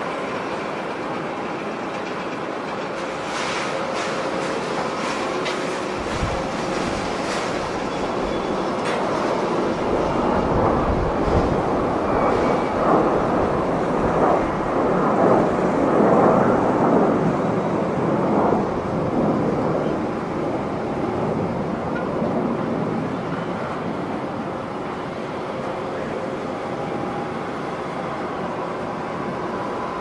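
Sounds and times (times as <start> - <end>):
jet roaring on climb out: 0.0 - 30.0.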